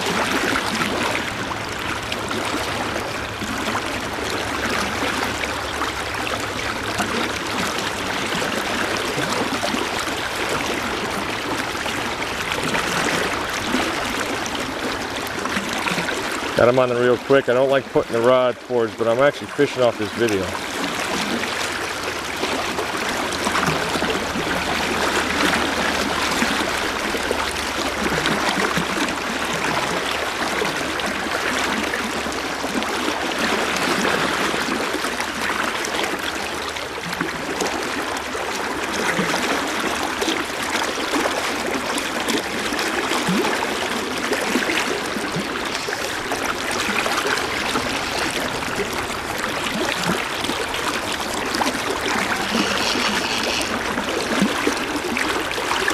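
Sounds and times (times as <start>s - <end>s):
fast river current rushing: 0.0s - 55.9s.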